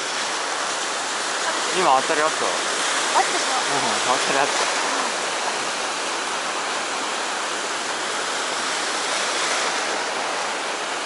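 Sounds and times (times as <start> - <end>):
sea surf on shore: 0.0 - 11.0.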